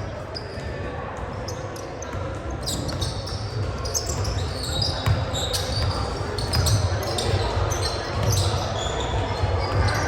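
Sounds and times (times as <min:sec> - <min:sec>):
shoe squeaks: 0:01.5 - 0:10.0.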